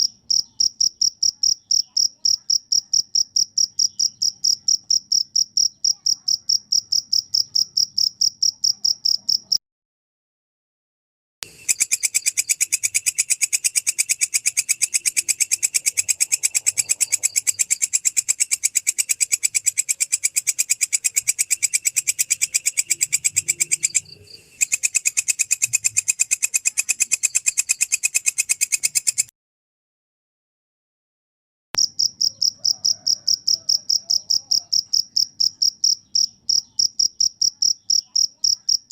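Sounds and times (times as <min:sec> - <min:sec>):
katydid calling: 0:00.0 - 0:09.6, 0:11.5 - 0:29.3, 0:31.8 - 0:38.9.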